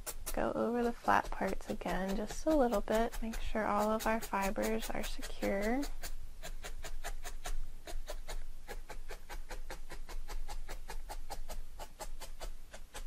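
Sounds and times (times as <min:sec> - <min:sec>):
felting needle stabbing foam: 0:00.0 - 0:13.0.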